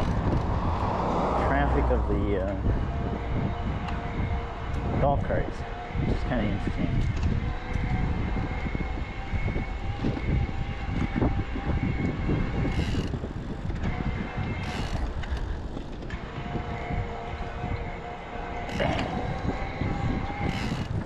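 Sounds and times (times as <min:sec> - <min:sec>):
road noise rumble: 0:00.0 - 0:21.0
thin whine: 0:00.0 - 0:21.0
wind buffeting microphone: 0:00.0 - 0:21.0.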